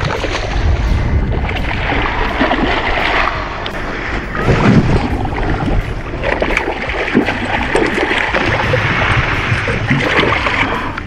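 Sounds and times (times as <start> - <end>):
fish splashing in water: 0.0 - 11.0
wind rumbling on microphone: 0.0 - 11.0.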